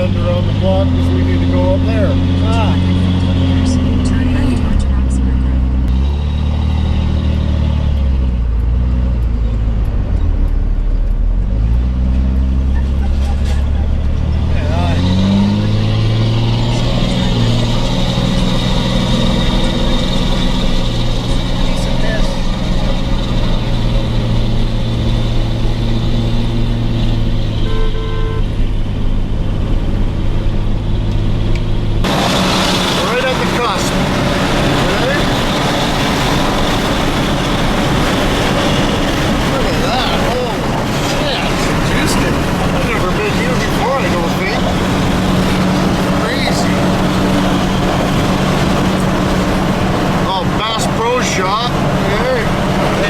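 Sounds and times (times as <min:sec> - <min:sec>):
road noise rush: 0:00.0 - 0:53.0
vehicle engine hum: 0:00.0 - 0:53.0.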